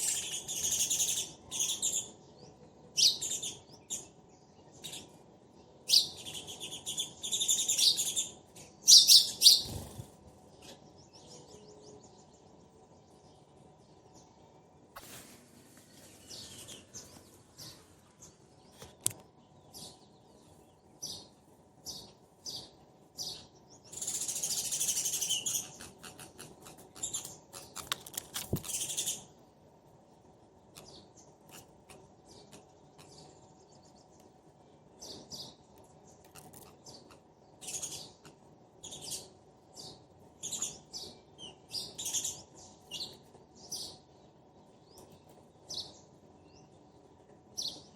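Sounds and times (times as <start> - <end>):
sparrows chirping: 0.0 - 14.9, 15.9 - 47.9.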